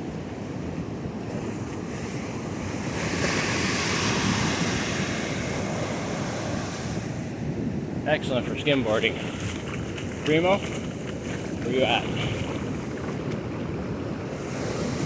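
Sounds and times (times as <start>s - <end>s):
wind buffeting microphone: 0.0s - 15.0s
wave breaking on beach: 1.3s - 7.2s, 8.5s - 15.0s.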